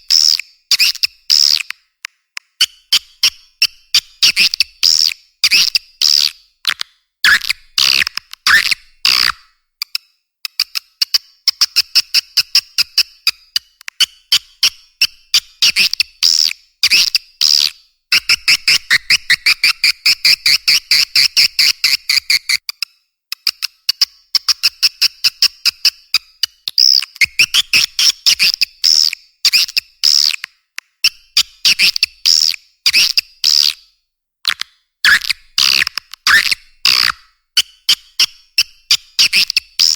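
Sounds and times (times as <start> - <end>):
bird chirps and clicks: 4.2 - 14.4, 15.6 - 33.8, 34.5 - 39.9.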